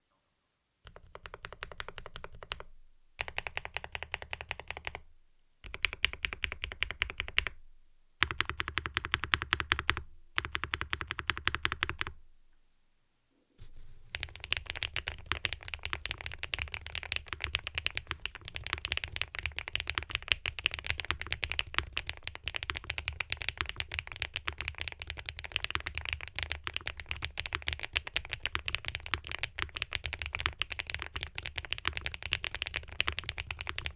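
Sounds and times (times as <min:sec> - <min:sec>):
mechanical keyboard typing: 0:00.9 - 0:05.0, 0:05.6 - 0:07.6, 0:08.2 - 0:12.2, 0:14.1 - 0:33.9.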